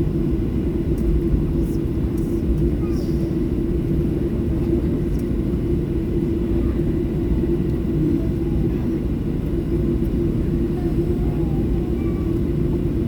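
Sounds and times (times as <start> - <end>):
airplane cabin rumble: 0.0 - 13.0
constant hum: 0.0 - 13.0.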